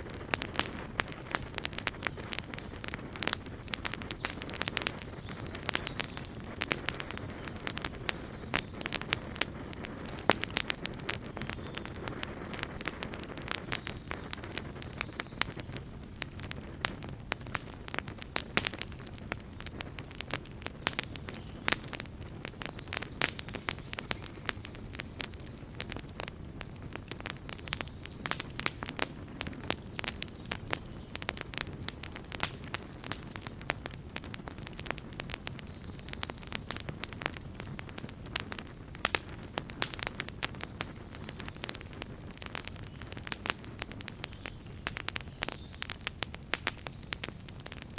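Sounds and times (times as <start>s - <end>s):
campfire crackling and popping: 0.0s - 47.9s
low rush of flames: 0.0s - 47.9s.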